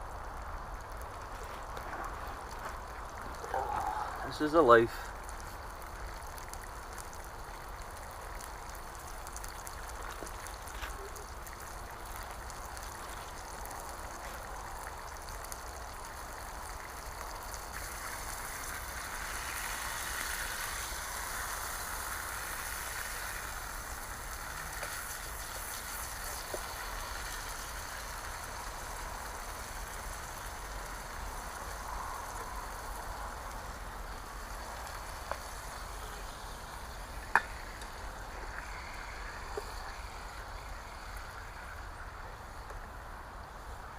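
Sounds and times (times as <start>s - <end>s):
bacon sizzling in frying pan: 0.0s - 42.8s.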